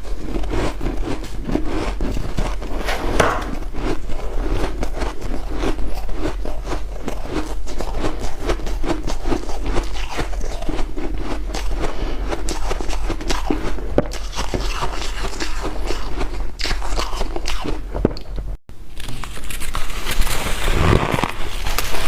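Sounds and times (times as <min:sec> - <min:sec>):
ice being crunched and chewed: 0:00.0 - 0:18.3, 0:18.9 - 0:22.0.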